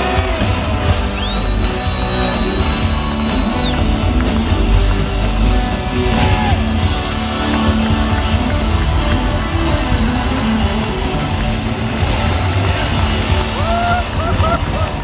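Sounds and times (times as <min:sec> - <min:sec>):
live rock band playing loudly: 0:00.0 - 0:15.0.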